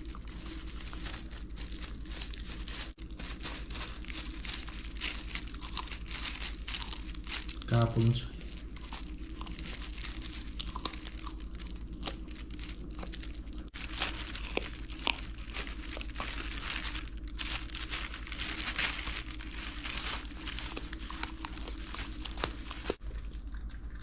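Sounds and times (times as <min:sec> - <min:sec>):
dog chewing bone crunches: 0:00.0 - 0:07.8, 0:08.4 - 0:24.0.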